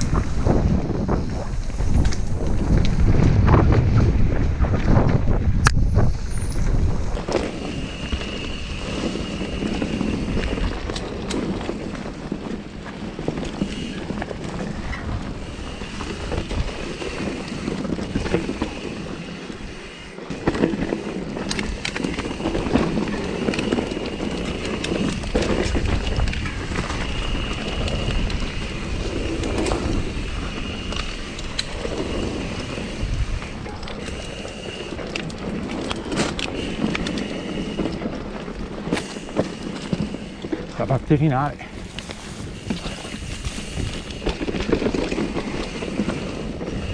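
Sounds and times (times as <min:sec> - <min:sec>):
bike rattling and knocking: 0:00.0 - 0:46.9
bike tyres rolling over dirt: 0:00.0 - 0:46.9
wind buffeting microphone: 0:00.0 - 0:46.9.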